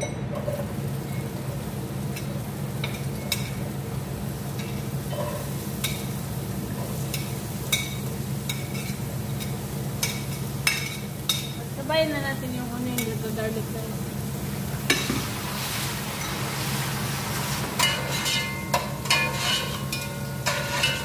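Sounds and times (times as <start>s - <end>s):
steady low hum: 0.0s - 21.0s
onion and garlic sizzling in oil: 0.3s - 21.0s.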